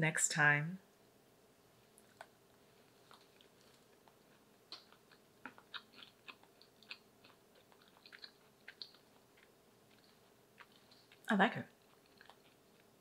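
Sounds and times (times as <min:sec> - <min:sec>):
person chewing crunchy cookie: 0:01.9 - 0:13.0.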